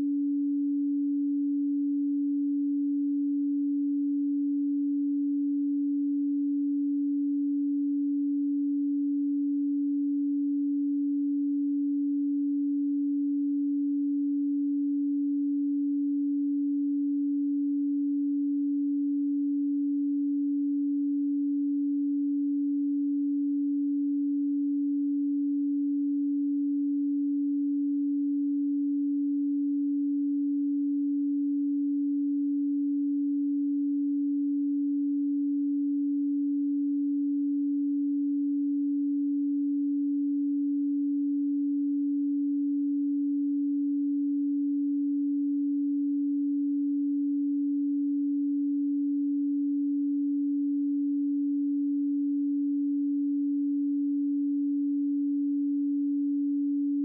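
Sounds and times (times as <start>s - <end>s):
steady low sine tone: 0.0s - 57.0s.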